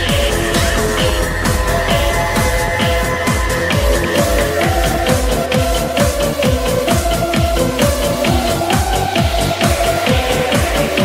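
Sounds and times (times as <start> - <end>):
electronic dance music: 0.0 - 11.0
held synthesizer tones: 0.0 - 11.0
steady kick drum: 0.0 - 11.0.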